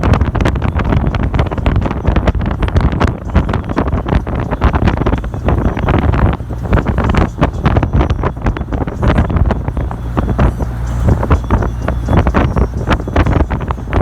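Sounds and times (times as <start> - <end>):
moving vehicle rumble: 0.0 - 14.0
wind buffeting microphone: 0.0 - 14.0.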